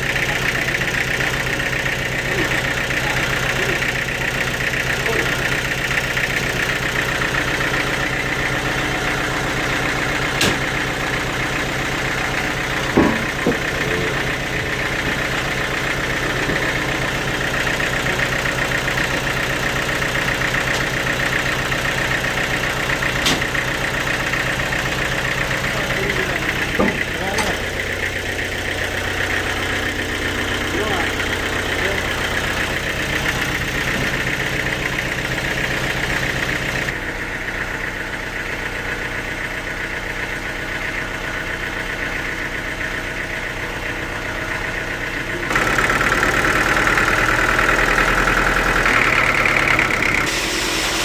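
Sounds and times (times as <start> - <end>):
engine running steadily: 0.0 - 51.0.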